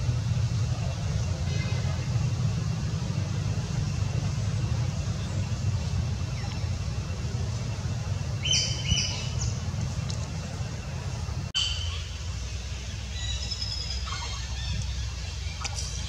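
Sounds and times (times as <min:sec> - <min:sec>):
steady low rumble: 0:00.0 - 0:16.0
birds chirping: 0:00.1 - 0:16.0.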